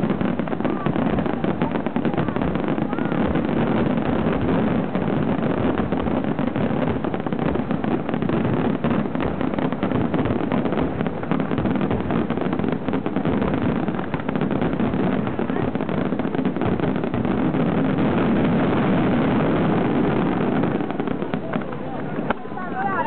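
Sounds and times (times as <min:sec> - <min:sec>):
fireworks bangs and crackle: 0:00.0 - 0:23.0.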